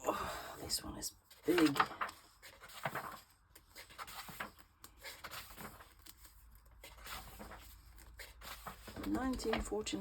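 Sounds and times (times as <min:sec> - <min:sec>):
paper rustling: 0:01.3 - 0:10.0.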